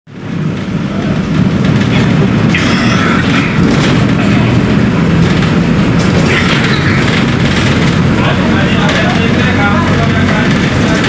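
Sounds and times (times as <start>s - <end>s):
bus engine rumbling: 0.1s - 11.0s.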